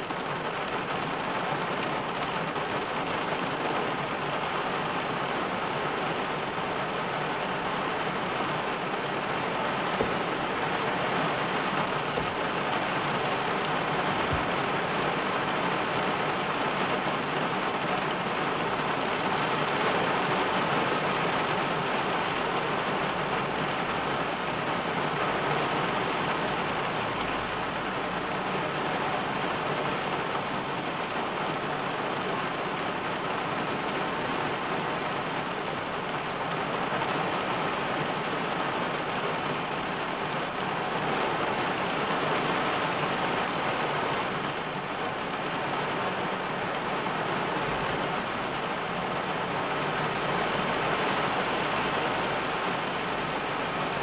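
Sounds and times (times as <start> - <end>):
heavy rain on car roof: 0.0 - 54.0.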